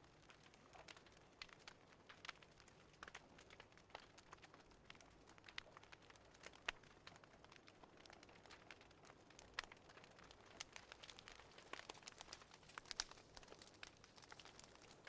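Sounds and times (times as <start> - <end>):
fire pops and snaps: 0.0 - 15.0
fireplace crackling: 1.5 - 15.0.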